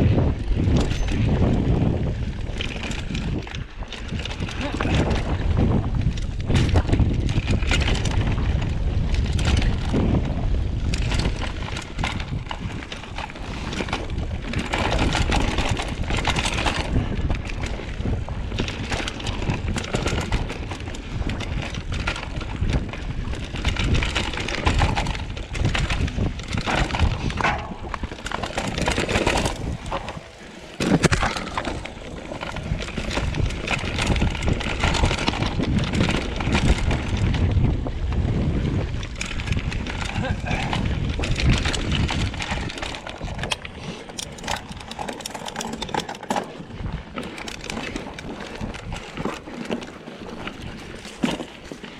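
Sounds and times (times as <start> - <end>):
bike tyres rolling over rough ground: 0.0 - 51.9
wind buffeting microphone: 0.0 - 51.9
bike clattering over bumps: 0.1 - 51.9.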